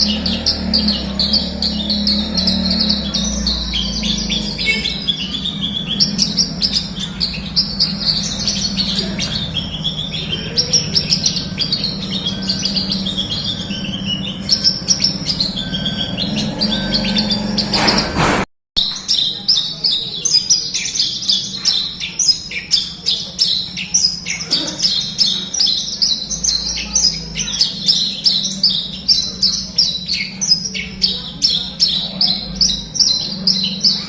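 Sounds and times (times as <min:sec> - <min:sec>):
bird singing chirps and trills: 0:00.0 - 0:18.2, 0:18.8 - 0:34.0.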